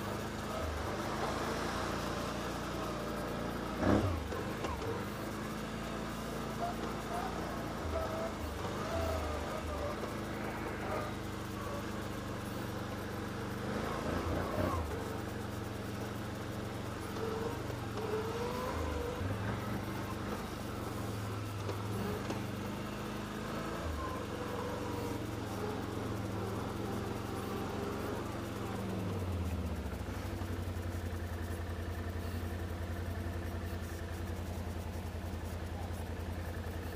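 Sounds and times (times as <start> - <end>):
atv engine running: 0.0 - 36.9.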